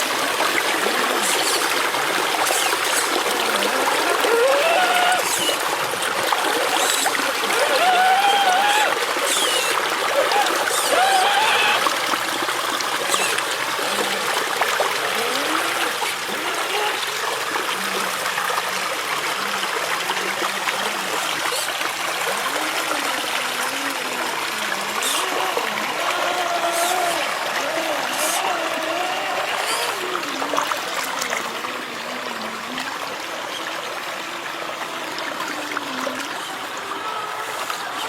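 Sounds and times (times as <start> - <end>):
river water trickling and rushing: 0.0 - 38.0.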